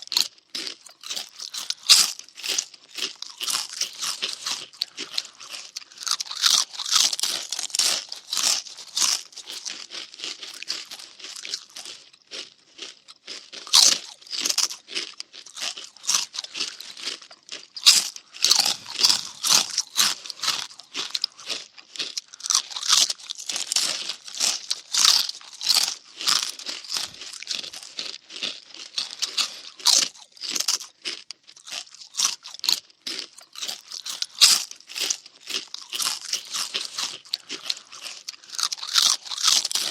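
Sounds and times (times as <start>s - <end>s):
cartoon munching crunches: 0.0s - 39.9s.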